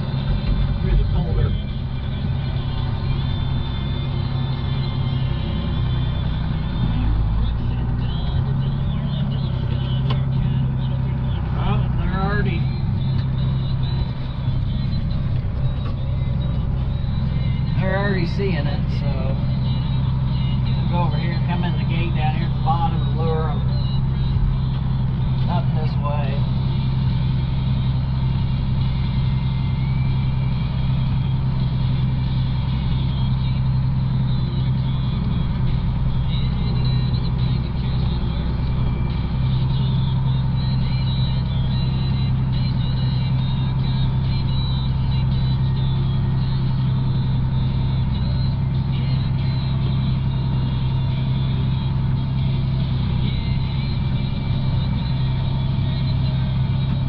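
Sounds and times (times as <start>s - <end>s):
farm vehicle engine droning: 0.0s - 57.0s.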